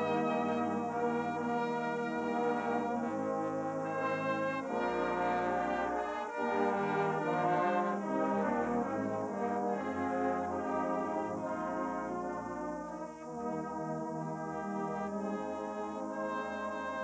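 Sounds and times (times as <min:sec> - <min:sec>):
brass band playing slow chords: 0:00.0 - 0:17.0.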